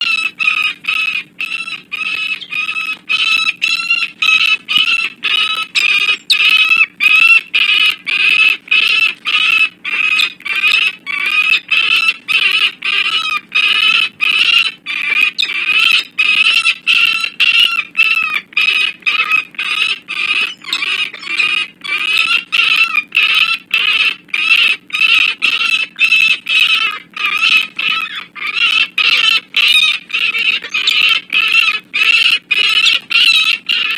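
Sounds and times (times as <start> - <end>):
falcon cacking: 0.0 - 33.9.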